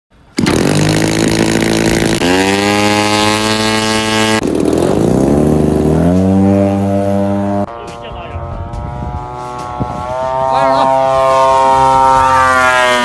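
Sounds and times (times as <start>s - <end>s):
model airplane engine revving: 0.4s - 13.0s.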